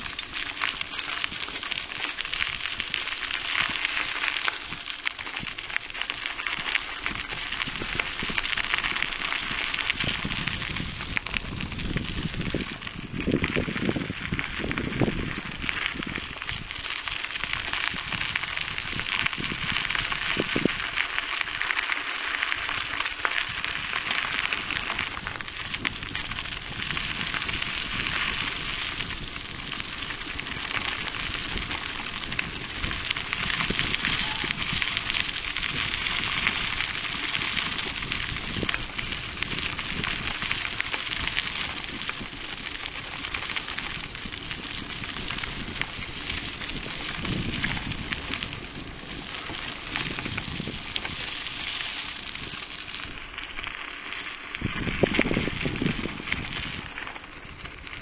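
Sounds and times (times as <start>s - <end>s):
bicycle tyres on gravel: 0.0s - 58.0s.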